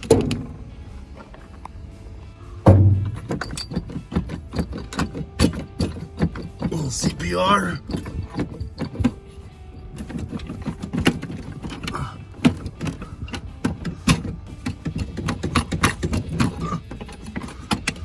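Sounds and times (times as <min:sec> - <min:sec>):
metal wiper arms clicking: 0:00.0 - 0:01.7, 0:02.6 - 0:18.0.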